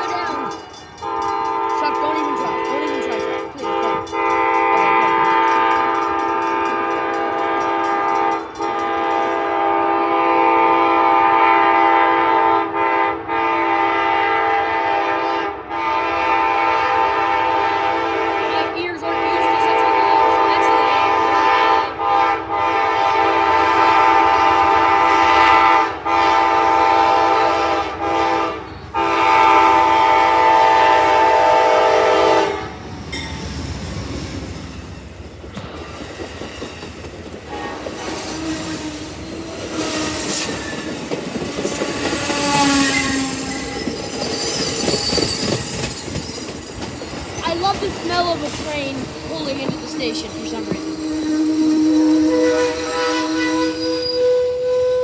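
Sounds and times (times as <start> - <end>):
train air horn blasts: 0.0 - 32.8, 37.5 - 41.0, 41.8 - 44.0, 49.3 - 55.0.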